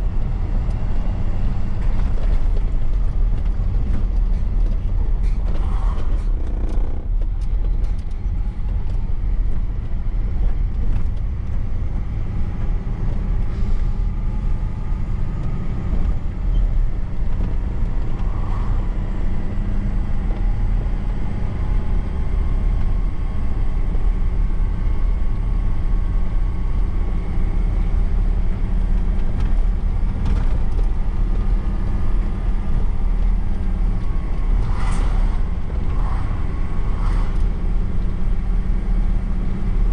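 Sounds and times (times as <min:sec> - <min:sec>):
diesel truck engine running: 0:00.0 - 0:39.9
road noise: 0:00.0 - 0:39.9.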